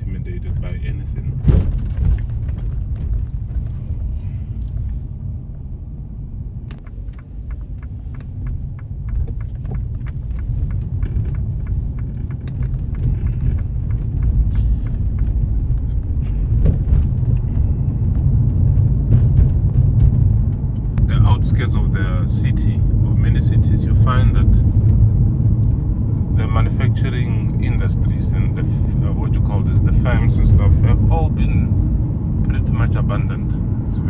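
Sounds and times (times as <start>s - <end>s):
car driving on road: 0.0s - 34.0s.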